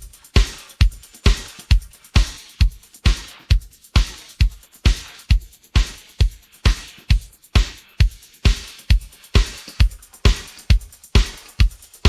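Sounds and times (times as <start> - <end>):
kick drum: 0.0 - 12.0.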